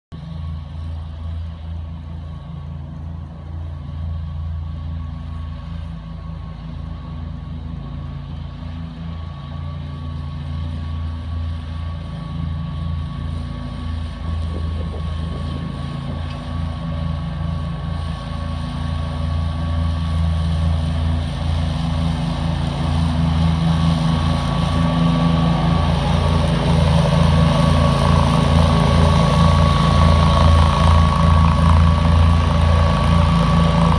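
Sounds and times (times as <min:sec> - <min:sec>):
lawn mower engine running: 0:00.2 - 0:33.9.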